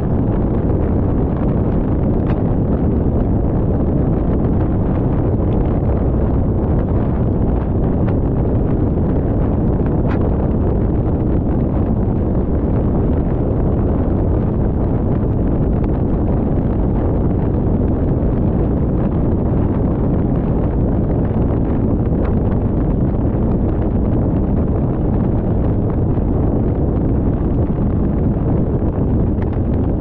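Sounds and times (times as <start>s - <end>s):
tyre and wind road noise: 0.0s - 30.0s.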